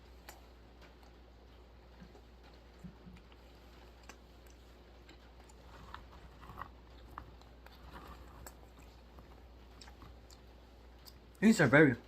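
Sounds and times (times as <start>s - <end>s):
almonds being chewed: 0.0s - 12.0s.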